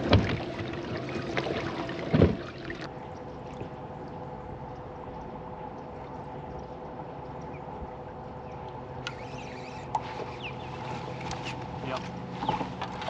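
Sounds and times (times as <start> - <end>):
faint steady hum: 0.0 - 13.0
water lapping against boat hull: 0.0 - 13.0.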